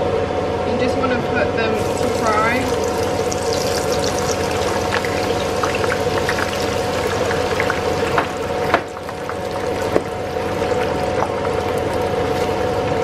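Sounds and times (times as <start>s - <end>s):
faint steady hum: 0.0s - 13.0s
onions sizzling in hot oil: 1.8s - 12.6s.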